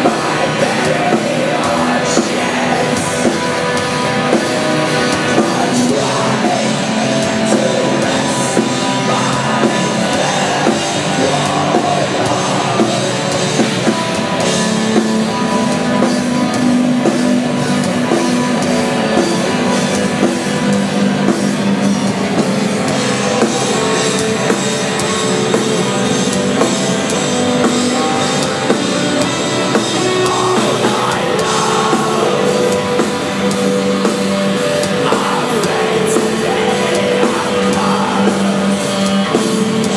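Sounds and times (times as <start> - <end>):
distorted guitars: 0.0 - 39.9
drums: 0.0 - 39.9
vocals: 0.0 - 39.9.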